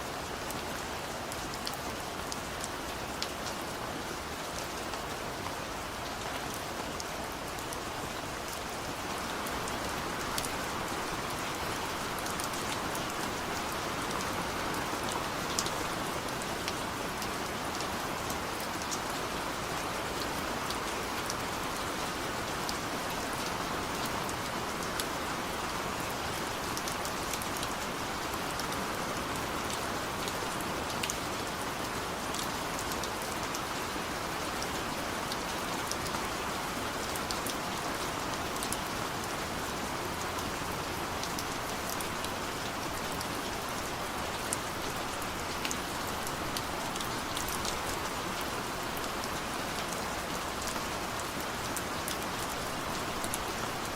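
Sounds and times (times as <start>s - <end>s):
heavy rain in a forest: 0.0s - 53.9s.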